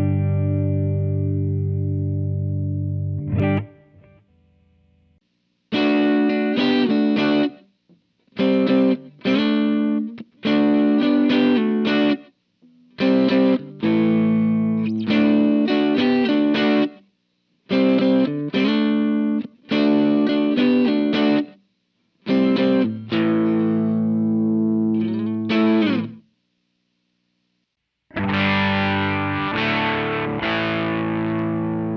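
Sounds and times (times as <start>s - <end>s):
electric guitar chords: 0.0s - 7.7s, 8.3s - 17.0s, 17.7s - 21.6s, 22.2s - 26.2s, 28.1s - 31.9s.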